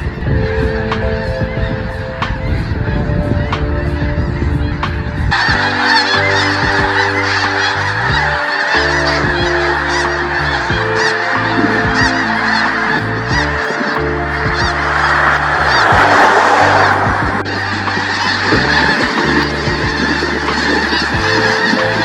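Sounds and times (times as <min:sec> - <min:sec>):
geese honking: 0:00.0 - 0:22.0
low sustained tones: 0:00.0 - 0:22.0.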